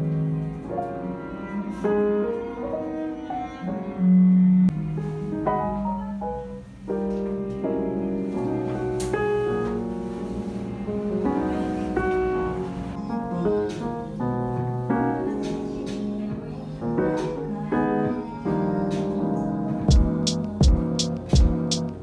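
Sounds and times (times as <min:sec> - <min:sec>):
instrumental background music: 0:00.0 - 0:22.0.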